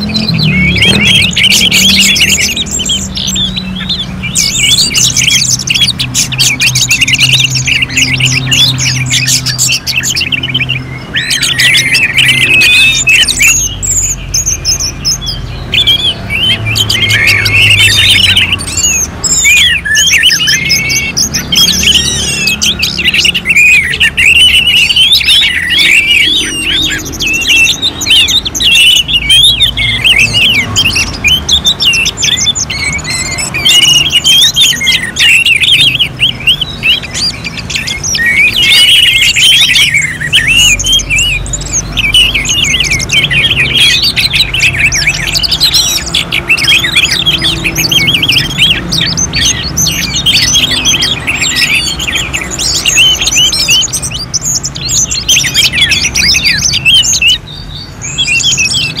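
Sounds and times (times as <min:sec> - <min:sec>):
thrushes singing: 0:00.0 - 0:59.0.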